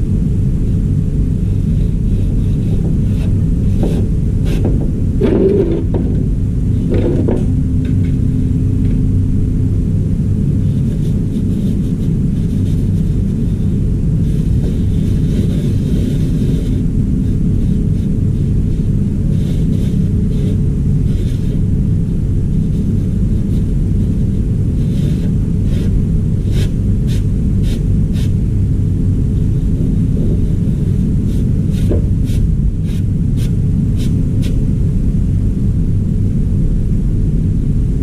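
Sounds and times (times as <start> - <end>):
low mechanical rumble with hum: 0.0 - 38.0.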